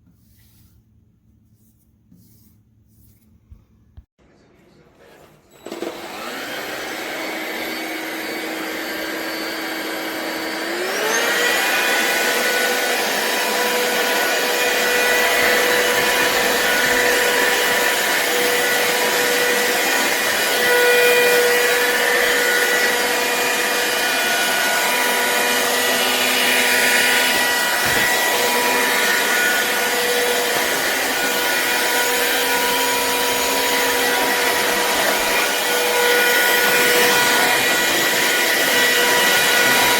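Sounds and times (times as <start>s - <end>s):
stick vacuum motor whine: 5.5s - 39.9s.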